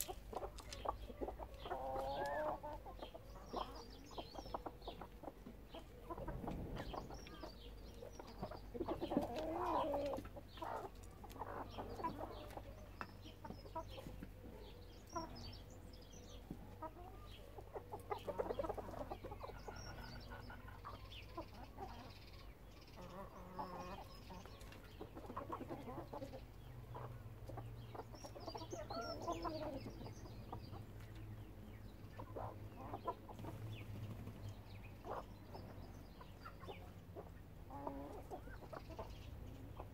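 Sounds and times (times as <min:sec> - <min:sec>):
hens clucking: 0:00.0 - 0:39.9.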